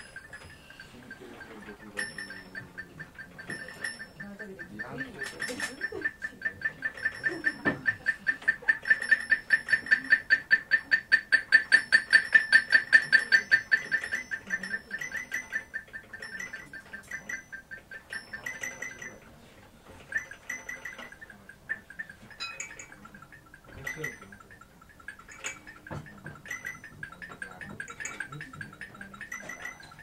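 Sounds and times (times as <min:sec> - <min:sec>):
rapid high-pitched beeps: 0:00.0 - 0:19.3, 0:20.1 - 0:30.0.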